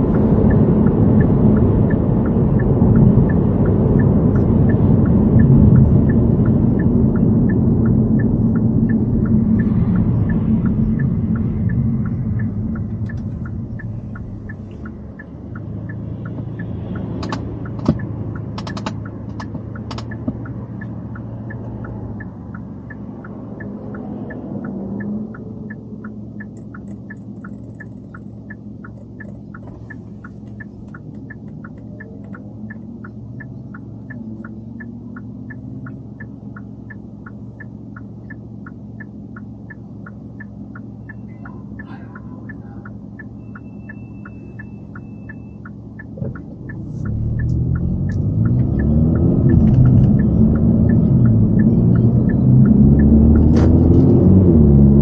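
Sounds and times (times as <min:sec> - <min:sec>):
car engine idling: 0:00.0 - 0:53.9
car accelerating: 0:00.0 - 0:55.0
turn signal ticking: 0:00.0 - 0:55.0.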